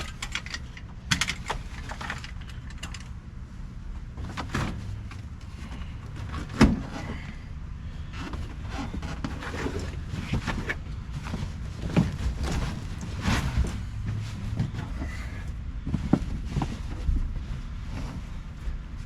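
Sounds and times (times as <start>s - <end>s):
knocks clicks and scrapes of parts: 0.0s - 3.4s, 4.0s - 7.4s, 8.1s - 17.3s
steady low rumble: 0.0s - 19.0s.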